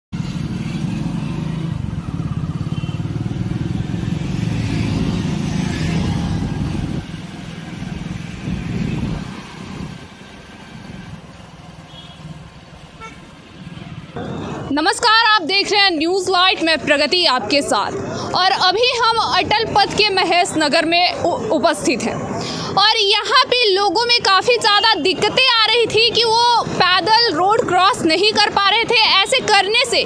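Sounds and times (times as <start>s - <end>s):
road traffic passing: 0.1s - 30.0s.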